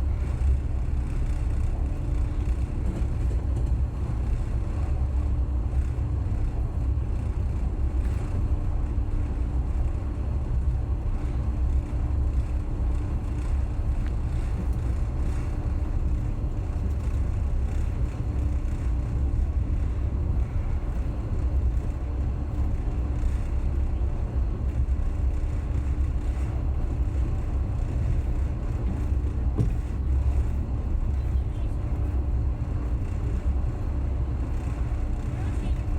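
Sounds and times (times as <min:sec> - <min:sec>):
train wheels rumbling on rail: 0:00.0 - 0:35.9.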